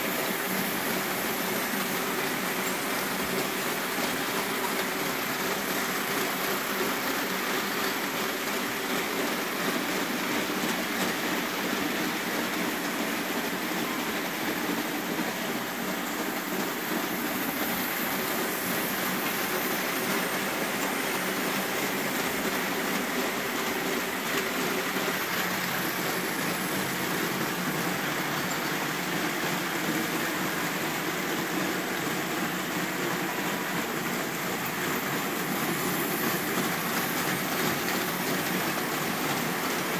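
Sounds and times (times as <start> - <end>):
electric locomotive motor: 0.0 - 39.9
model train wheels rolling: 0.0 - 39.9.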